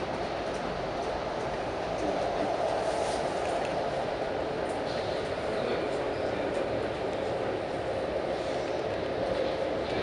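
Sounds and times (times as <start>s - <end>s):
train running noise inside car: 0.0s - 10.0s.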